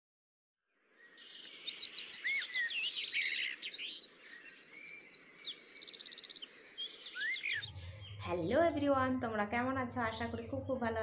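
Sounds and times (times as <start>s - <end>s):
birds chirping in trills: 0.8s - 11.0s.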